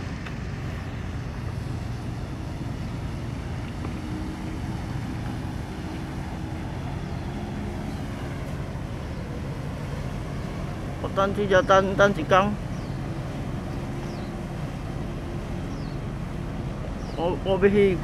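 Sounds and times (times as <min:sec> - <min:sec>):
ship engine low rumble: 0:00.0 - 0:18.0.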